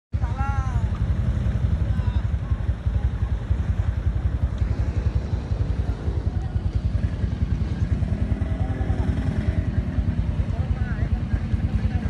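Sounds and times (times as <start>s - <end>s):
vehicle engine running: 0.2s - 12.0s.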